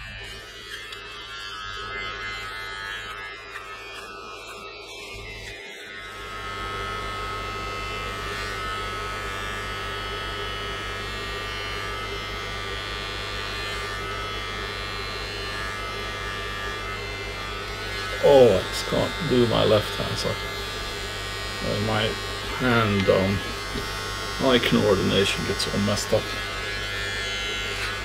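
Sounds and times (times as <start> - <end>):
electric beard trimmer buzzing: 0.0 - 28.0.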